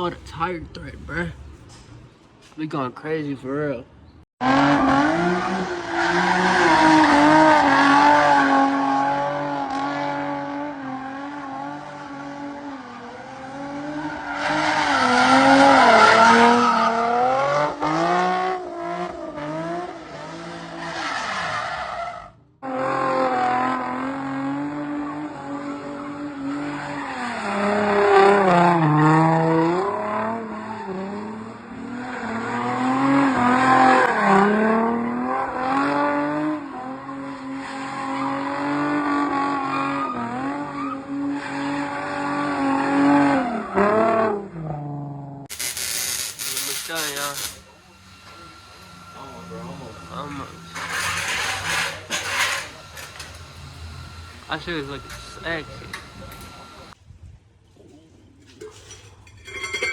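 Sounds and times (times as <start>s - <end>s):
car engine revving: 0.0s - 2.0s, 4.4s - 45.4s, 46.6s - 57.0s
tires squealing: 4.4s - 45.0s, 45.6s - 57.0s.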